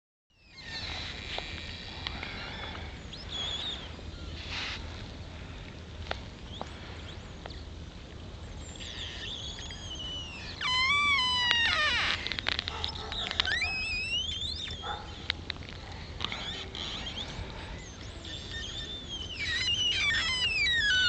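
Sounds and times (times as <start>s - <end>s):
ice creaking and whistling: 0.4s - 7.7s, 8.5s - 21.0s.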